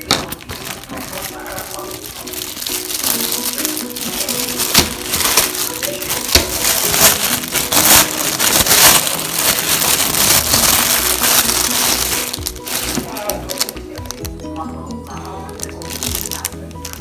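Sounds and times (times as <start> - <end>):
plastic packaging crinkling: 0.0 - 14.5, 15.2 - 17.0.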